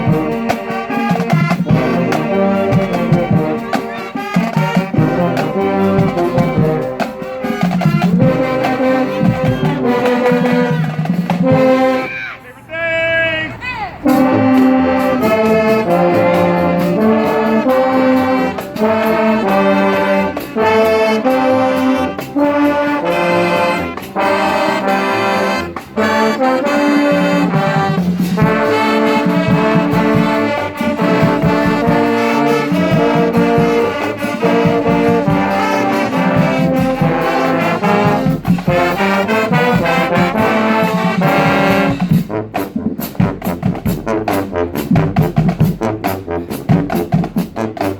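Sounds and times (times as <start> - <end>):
steady drum beat: 0.0 - 12.0, 14.2 - 47.9
trombones and trumpets melody: 0.0 - 12.3, 14.0 - 47.9.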